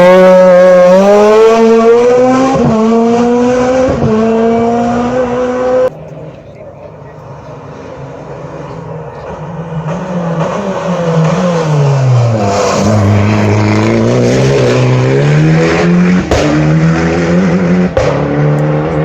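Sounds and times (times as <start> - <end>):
rally car engine revving: 0.0 - 6.3, 6.9 - 19.0.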